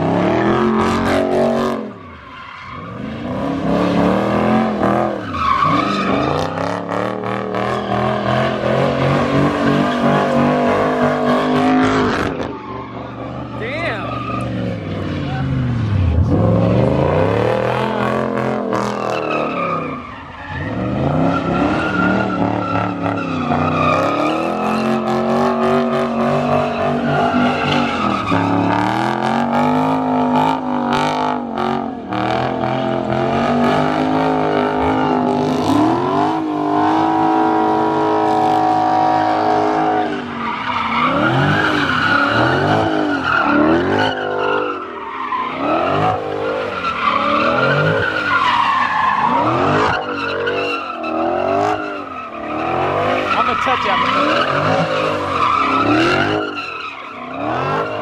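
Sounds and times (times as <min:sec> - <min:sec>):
tyres squealing and skidding: 0:00.0 - 0:58.0
car engine revving hard: 0:02.8 - 0:20.0, 0:20.6 - 0:44.9, 0:45.5 - 0:58.0.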